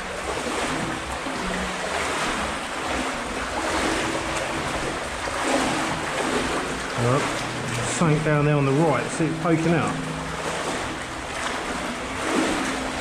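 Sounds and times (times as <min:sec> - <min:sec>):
water sloshing around wading legs: 0:00.0 - 0:13.0.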